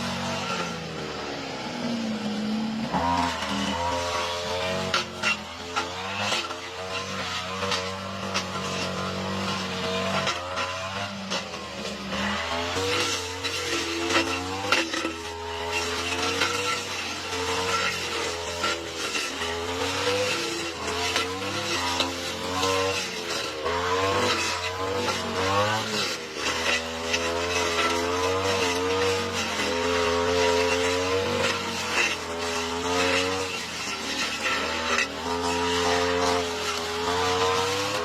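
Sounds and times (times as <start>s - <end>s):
lawn mower engine cutting grass: 0.0s - 38.0s.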